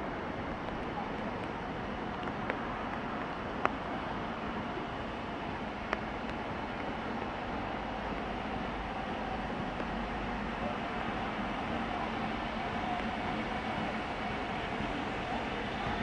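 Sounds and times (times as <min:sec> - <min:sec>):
distant steam locomotive running: 0:00.0 - 0:16.0.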